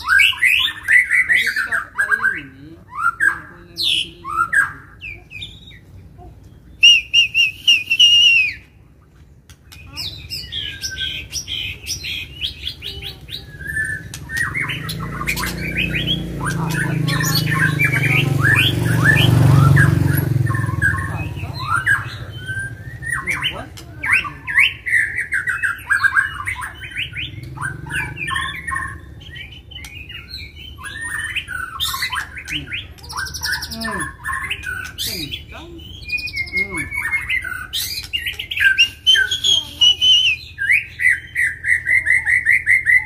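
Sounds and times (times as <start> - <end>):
birds singing rapid phrases: 0.0 - 43.0.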